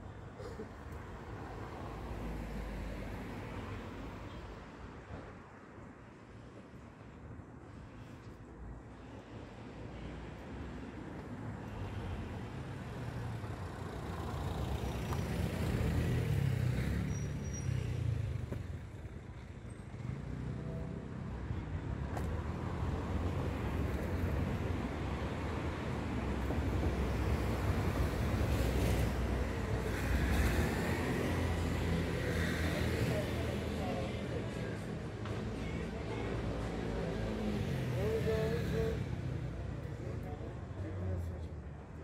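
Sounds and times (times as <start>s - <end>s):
cars passing: 0.0s - 5.3s, 6.0s - 42.0s.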